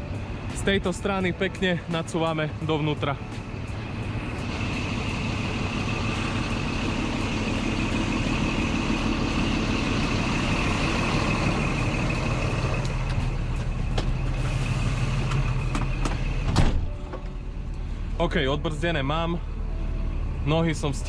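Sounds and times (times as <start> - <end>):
diesel truck engine running: 0.0 - 21.0
high whine: 3.3 - 21.0.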